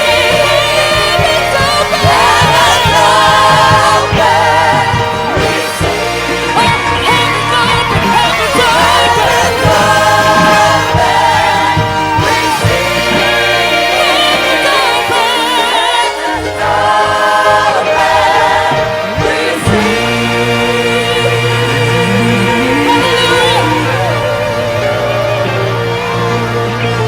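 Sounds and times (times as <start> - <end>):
choir singing: 0.0 - 27.0
low musical accompaniment: 0.0 - 27.0.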